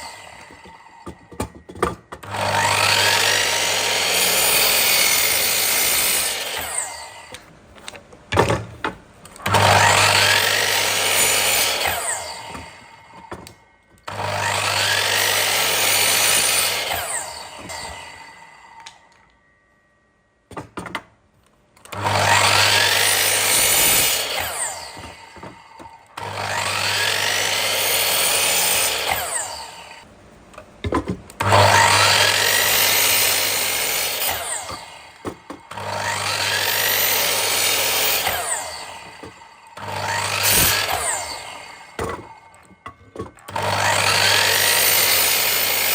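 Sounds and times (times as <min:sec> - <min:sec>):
electric power tool working wood: 0:00.0 - 0:07.4, 0:09.4 - 0:19.1, 0:21.8 - 0:30.0, 0:31.4 - 0:45.9.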